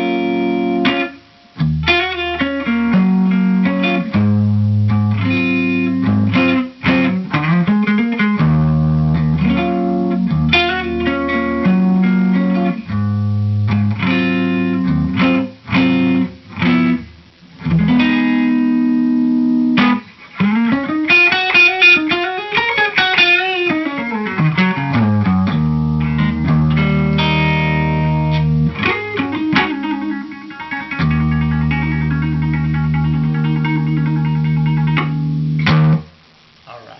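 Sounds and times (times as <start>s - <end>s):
electric guitar playing: 0.0s - 36.2s.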